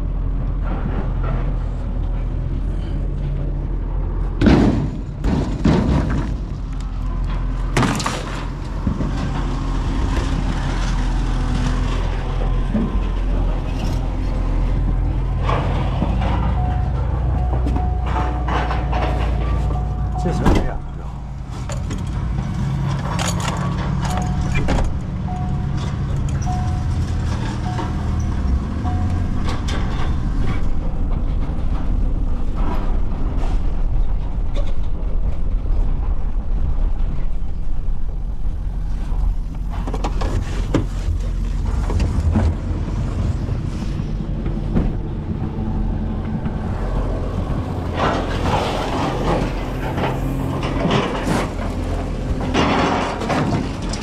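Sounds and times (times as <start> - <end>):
engine and road noise in cab: 0.0 - 54.0.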